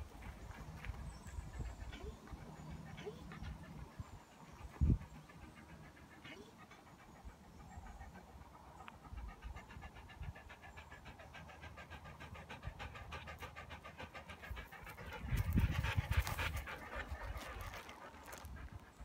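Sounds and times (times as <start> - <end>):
dog panting fast: 0.0 - 19.0.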